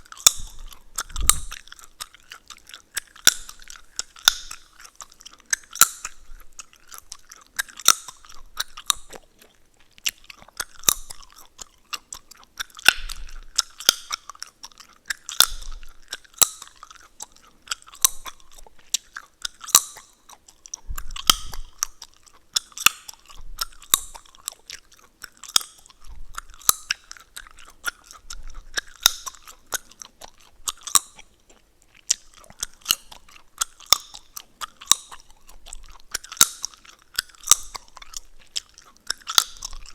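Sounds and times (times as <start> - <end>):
gum chewing mouth smacks: 0.0 - 39.9
gum cracks and clicks: 0.0 - 39.9.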